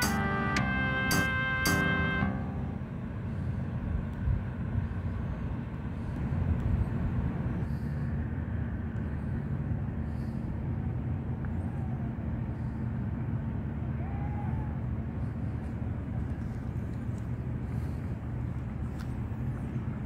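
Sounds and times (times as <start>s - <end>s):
faint hum: 0.0s - 20.0s
low outdoor rumble: 0.0s - 20.0s.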